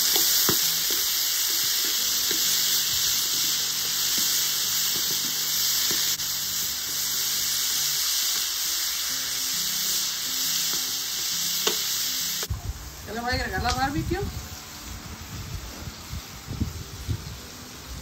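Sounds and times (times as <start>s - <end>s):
chicken sizzling in hot oil: 0.0s - 18.0s
soft background music: 0.0s - 18.0s.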